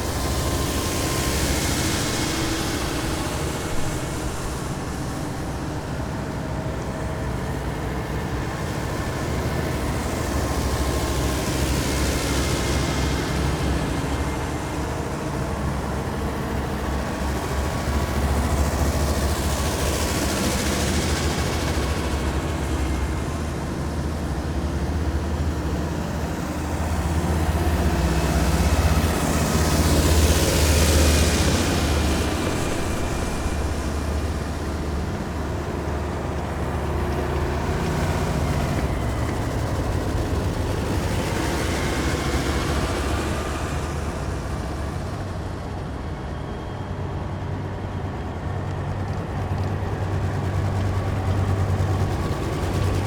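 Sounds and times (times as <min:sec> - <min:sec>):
heavy military vehicles passing: 0:00.0 - 0:53.0.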